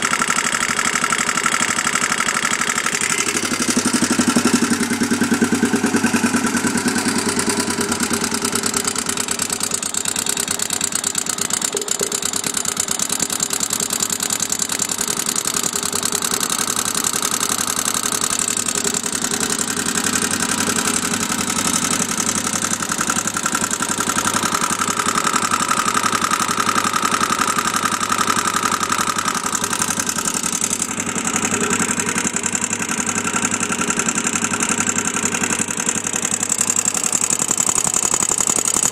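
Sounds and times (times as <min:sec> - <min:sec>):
atv engine idling: 0:00.0 - 0:38.9.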